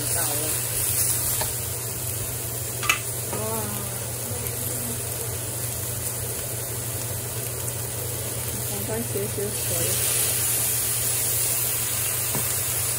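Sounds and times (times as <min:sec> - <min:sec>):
food sizzling in a wok: 0:00.0 - 0:12.9
steady low hum: 0:00.0 - 0:12.9.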